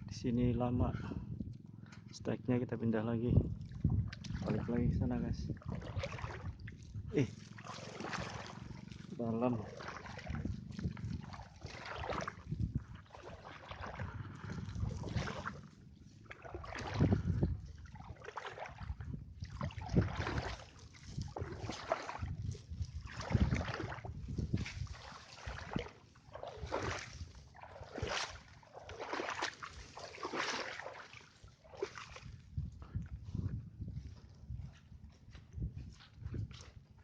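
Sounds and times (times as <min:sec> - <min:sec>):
water sloshing and splashing: 0:03.0 - 0:37.0.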